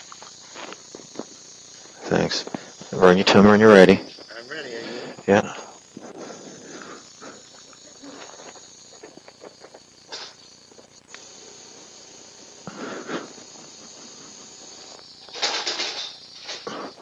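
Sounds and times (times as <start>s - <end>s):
equipment hiss: 0.0s - 17.0s.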